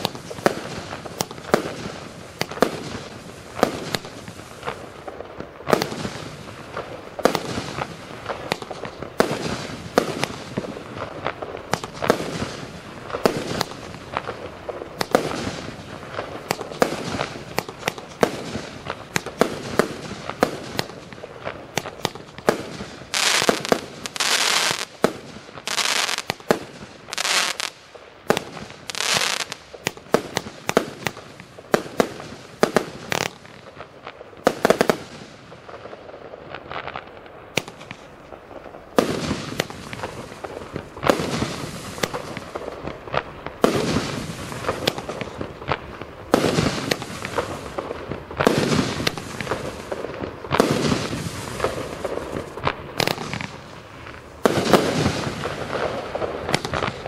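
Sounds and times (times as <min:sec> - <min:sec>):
fireworks hissing: 0:00.0 - 0:33.8, 0:36.6 - 0:57.0
fireworks sharp reports: 0:00.0 - 0:57.0.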